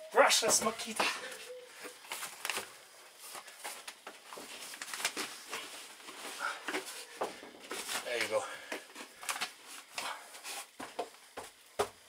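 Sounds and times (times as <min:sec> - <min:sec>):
rustling: 0:00.4 - 0:10.9.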